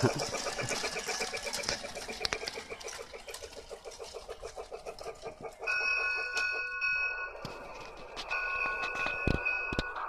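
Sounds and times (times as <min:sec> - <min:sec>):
toy train clattering on track: 0:00.0 - 0:10.0.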